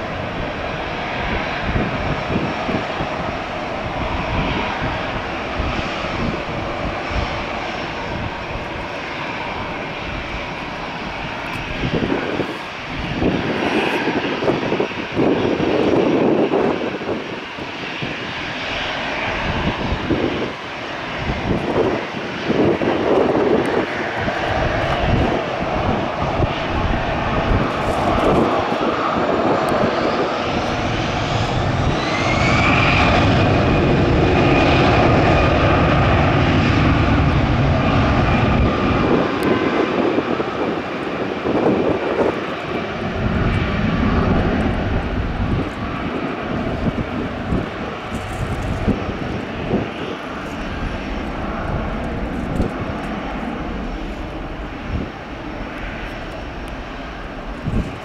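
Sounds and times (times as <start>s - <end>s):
rising engine whine: 0.0s - 17.3s, 18.0s - 58.0s
jet engines spooling up: 0.0s - 58.0s.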